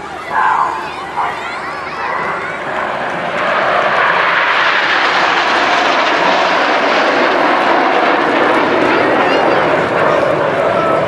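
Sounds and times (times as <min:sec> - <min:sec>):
jets roaring past: 0:00.0 - 0:11.0.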